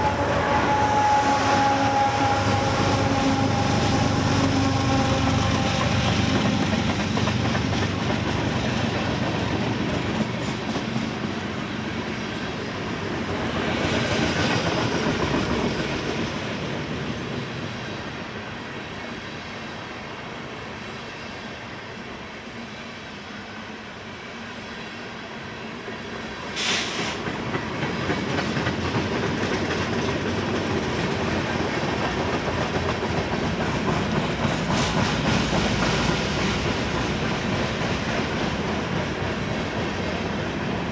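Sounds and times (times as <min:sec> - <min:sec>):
freight train rolling past: 0:00.0 - 0:40.9.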